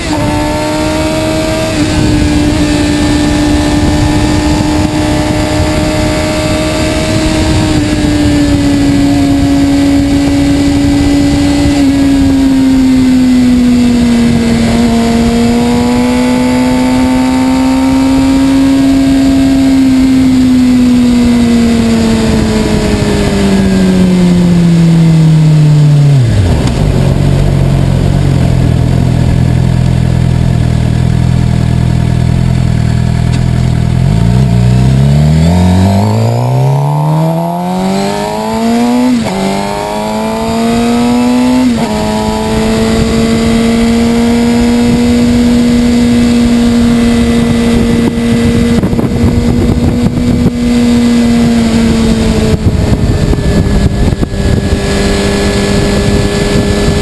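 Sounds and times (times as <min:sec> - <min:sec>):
wind rushing over microphone: 0:00.0 - 0:31.1, 0:33.7 - 0:57.0
motorcycle engine: 0:00.0 - 0:57.0.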